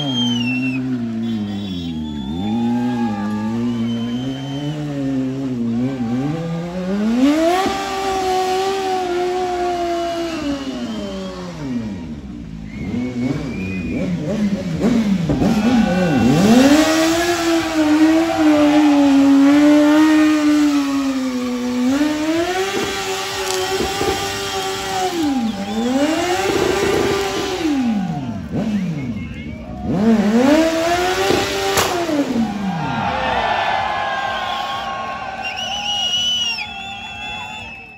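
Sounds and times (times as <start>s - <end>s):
motorcycle engine revving hard: 0.8s - 33.0s.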